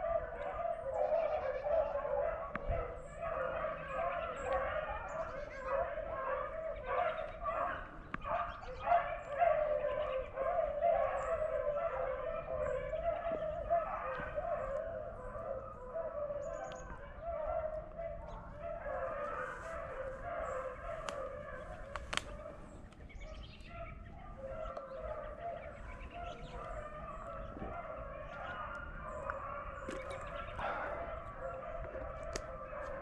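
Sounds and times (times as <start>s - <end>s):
hounds baying: 0.0s - 33.0s.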